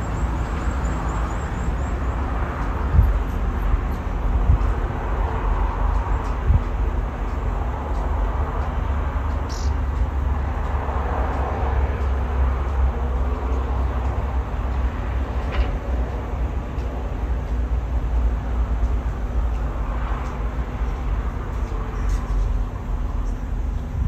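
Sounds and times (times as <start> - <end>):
distant city traffic: 0.0 - 24.0
wind buffeting microphone: 0.0 - 24.0.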